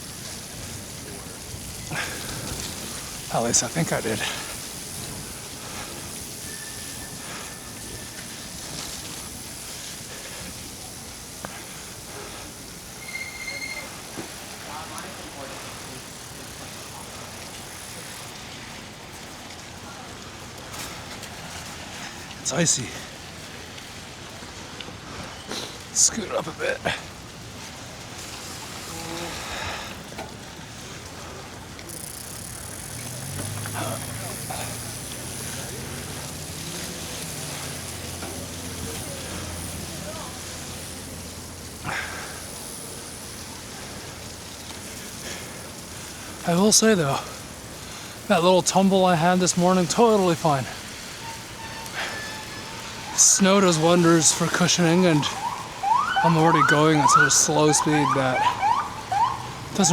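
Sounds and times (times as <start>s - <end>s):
bicycle tyres hissing through slush: 0.0s - 59.9s.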